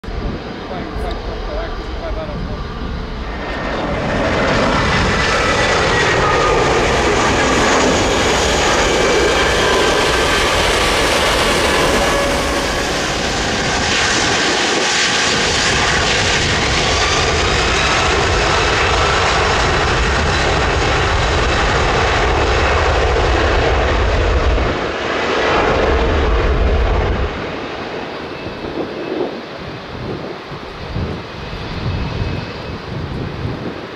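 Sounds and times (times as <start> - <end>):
jet engine roar: 0.0 - 33.9
thin jet whine: 0.0 - 33.9.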